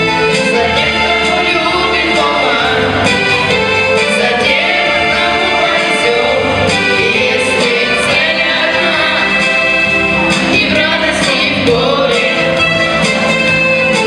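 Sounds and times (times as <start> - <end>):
instrumental backing music: 0.0 - 14.0
person singing: 0.2 - 3.0, 4.0 - 13.2.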